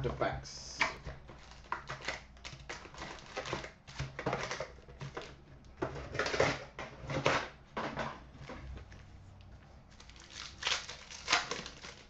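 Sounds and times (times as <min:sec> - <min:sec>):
card packs rustling: 0:00.9 - 0:08.9, 0:09.9 - 0:12.0.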